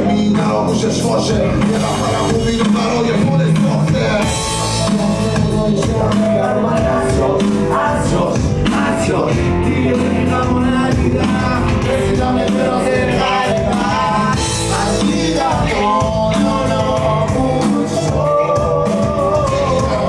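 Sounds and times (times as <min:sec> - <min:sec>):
drum kit: 0:00.0 - 0:20.0
person singing: 0:00.0 - 0:20.0
rock band playing: 0:00.0 - 0:20.0.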